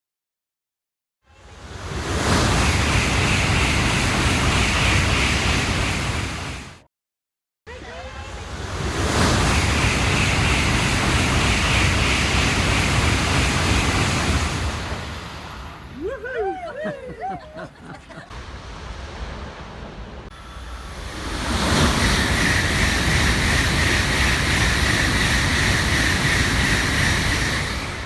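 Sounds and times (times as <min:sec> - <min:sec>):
high-speed train rushing past: 0:01.3 - 0:06.8, 0:07.7 - 0:28.0.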